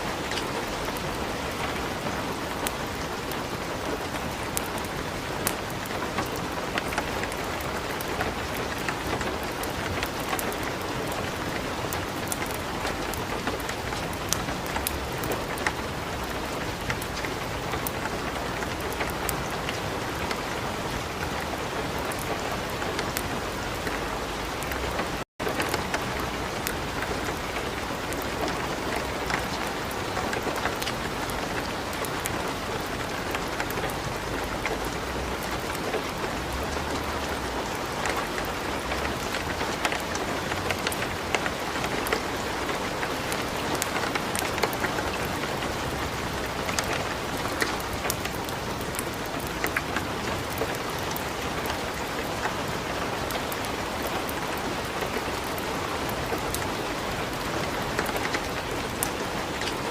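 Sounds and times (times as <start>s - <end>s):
light rain: 0.0s - 59.9s
wood fire crackling: 0.1s - 59.9s.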